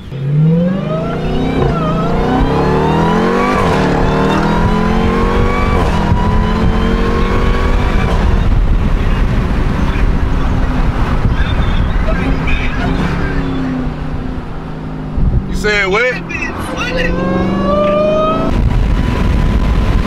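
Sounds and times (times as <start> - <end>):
car engine accelerating hard: 0.0 - 20.0
road noise: 0.0 - 20.0.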